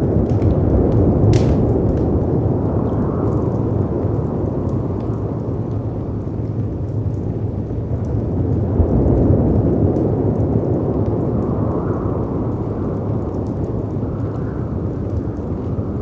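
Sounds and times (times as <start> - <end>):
wind: 0.0 - 16.0
wood fire crackling: 0.0 - 16.0.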